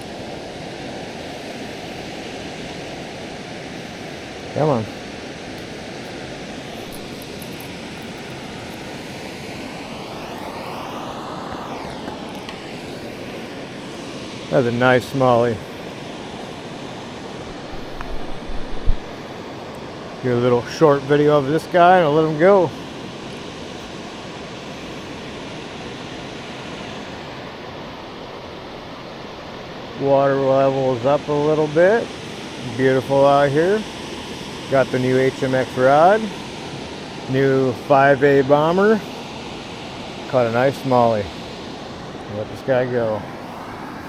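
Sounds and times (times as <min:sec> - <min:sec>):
airplane passing overhead: 0:00.0 - 0:44.0.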